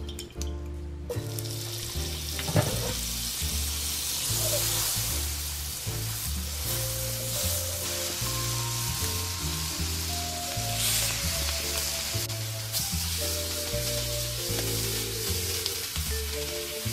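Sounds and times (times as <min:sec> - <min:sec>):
background music with bass line: 0:00.0 - 0:16.9
butter sizzling in a skillet: 0:01.2 - 0:16.9.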